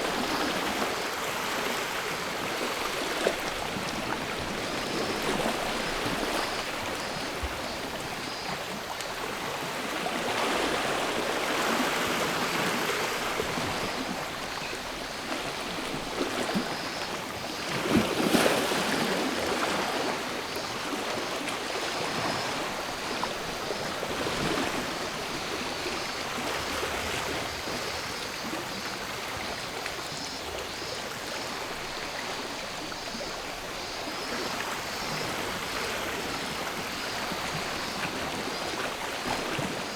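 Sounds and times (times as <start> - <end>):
faint cicada chorus: 0.0 - 39.9.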